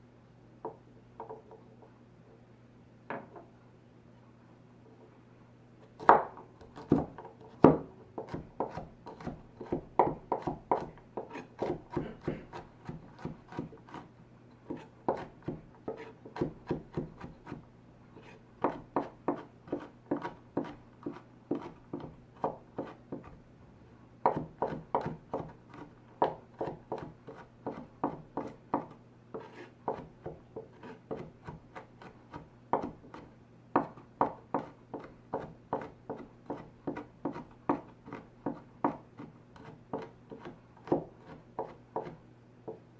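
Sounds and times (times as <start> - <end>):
knife chopping on cutting board: 6.0 - 14.1, 14.7 - 17.6, 18.2 - 23.4, 24.2 - 42.8.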